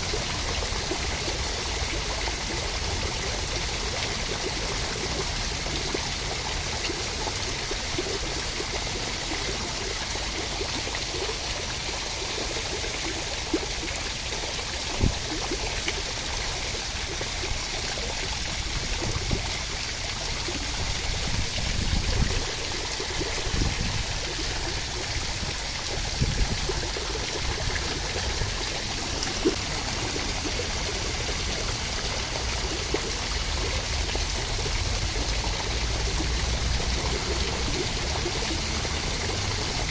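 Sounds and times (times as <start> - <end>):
sharp drips: 0.0 - 39.9
steady rain hiss: 0.0 - 39.9.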